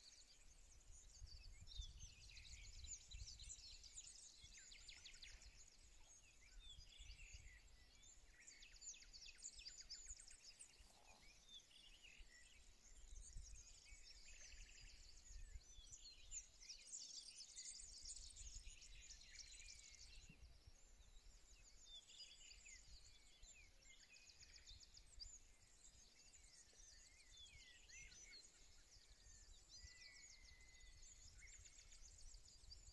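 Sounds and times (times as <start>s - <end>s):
small birds chirping and trilling: 0.0s - 32.9s.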